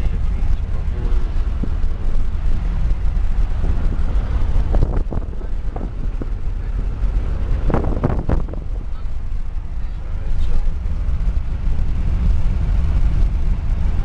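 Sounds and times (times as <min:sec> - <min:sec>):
faint voices: 0:00.0 - 0:14.0
steady low rumble: 0:00.0 - 0:14.0.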